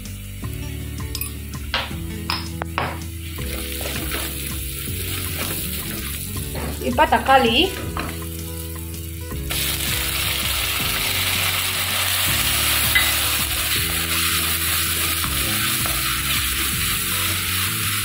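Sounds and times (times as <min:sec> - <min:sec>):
tomatoes sizzling in hot oil: 0:00.0 - 0:18.0.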